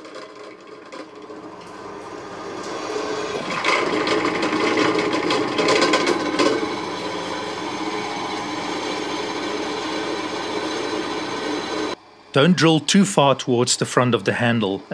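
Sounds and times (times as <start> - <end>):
drill press cutting steel: 0.0 - 12.0.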